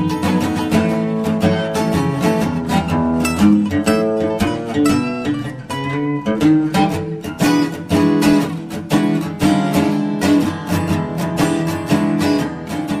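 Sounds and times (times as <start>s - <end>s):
acoustic blues guitar: 0.0s - 13.0s.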